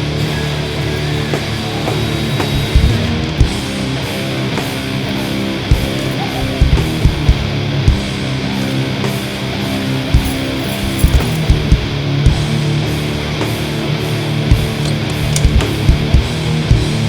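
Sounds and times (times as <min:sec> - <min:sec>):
distorted electric guitar: 0:00.0 - 0:17.0
driving drum beat: 0:00.0 - 0:17.0.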